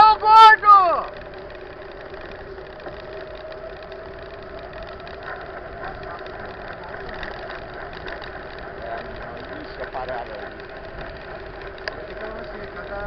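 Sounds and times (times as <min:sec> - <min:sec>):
faint steady tones: 0:00.0 - 0:13.0
steady mechanical hum: 0:00.0 - 0:13.0.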